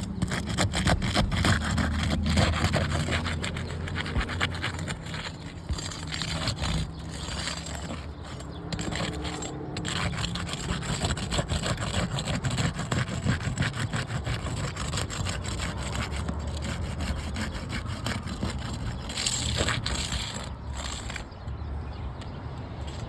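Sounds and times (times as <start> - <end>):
rasping and scraping on hard material: 0.0 - 21.7, 22.7 - 23.0.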